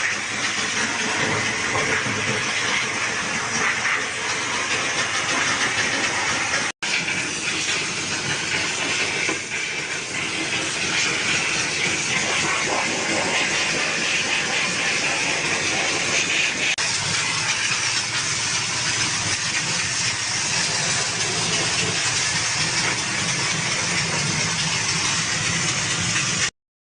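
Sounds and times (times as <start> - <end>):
steam cleaner hissing: 0.0 - 26.5.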